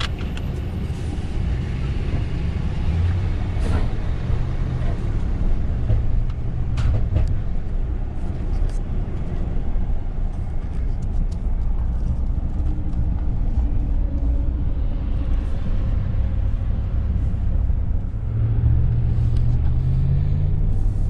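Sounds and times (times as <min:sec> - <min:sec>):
road noise: 0:00.0 - 0:21.0
truck engine rumble: 0:00.0 - 0:21.0.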